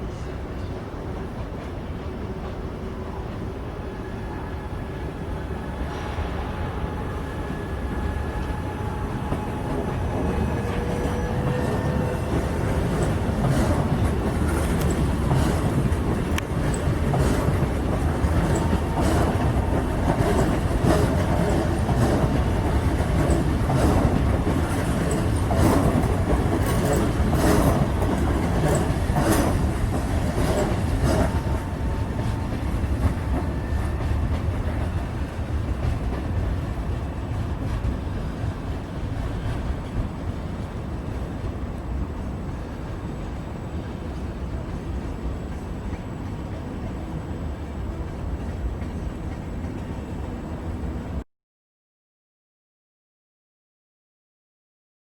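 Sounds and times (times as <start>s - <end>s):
steam train on rails: 0.0s - 51.2s.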